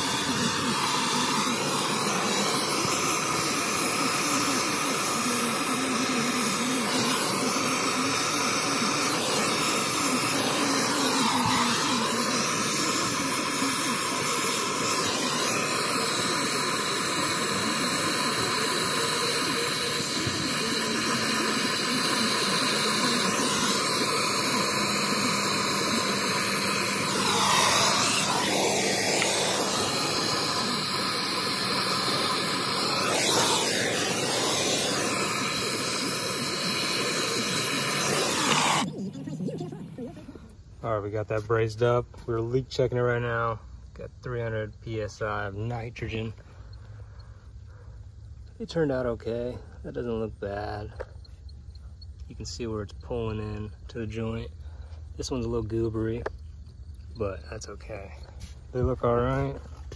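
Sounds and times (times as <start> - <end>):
torch flame hissing: 0.0 - 42.1, 44.2 - 59.9.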